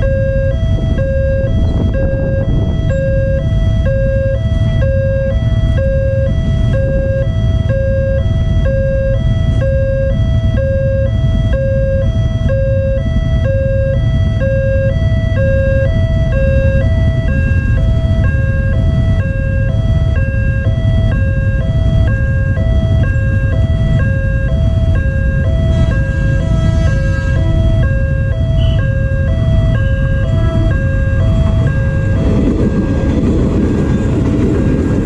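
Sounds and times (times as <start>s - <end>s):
level crossing two-tone alarm: 0.0s - 35.0s.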